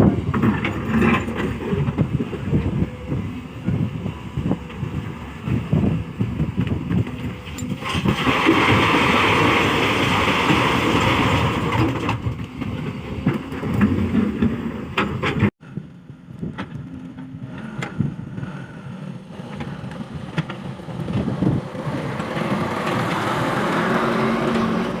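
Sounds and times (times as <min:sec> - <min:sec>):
excavator diesel engine under load: 0:00.0 - 0:25.0.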